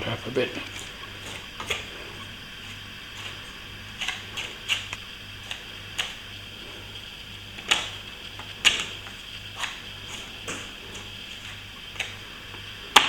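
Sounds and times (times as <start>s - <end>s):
faint steady hum: 0.0s - 13.0s
hand tools tapping and clicking: 0.5s - 6.3s, 7.6s - 13.0s.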